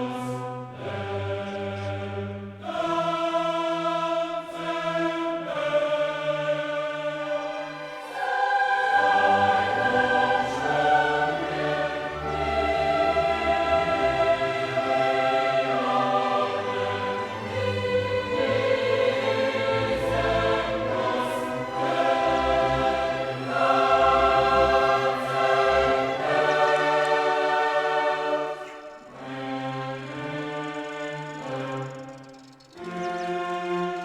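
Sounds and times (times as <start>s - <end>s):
choir singing held chords: 0.0s - 34.0s.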